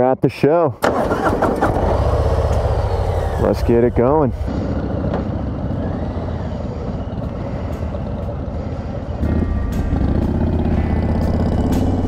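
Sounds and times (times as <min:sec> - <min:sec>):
motorcycle engines running: 0:01.6 - 0:12.0.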